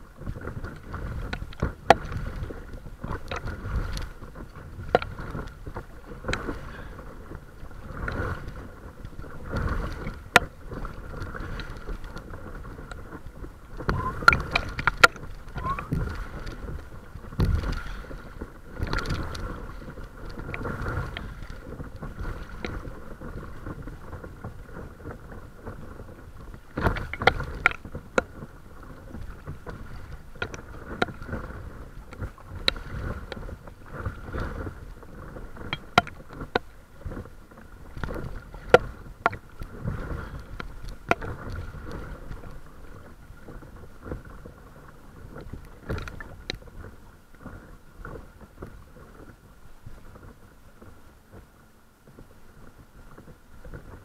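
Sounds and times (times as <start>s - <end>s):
paddle strokes in water: 0.0s - 54.0s
small waves lapping at a bow: 0.0s - 54.0s.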